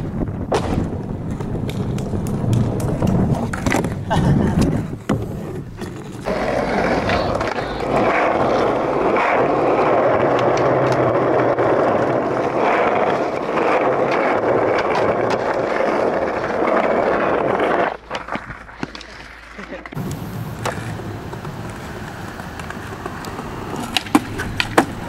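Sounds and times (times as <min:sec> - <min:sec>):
skateboard wheels rolling on concrete: 0:00.0 - 0:25.0.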